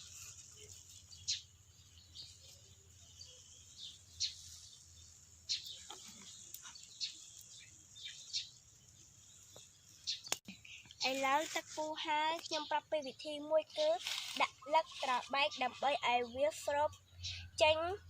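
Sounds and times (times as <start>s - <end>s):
bird chirps: 0.0s - 11.2s, 12.2s - 18.0s.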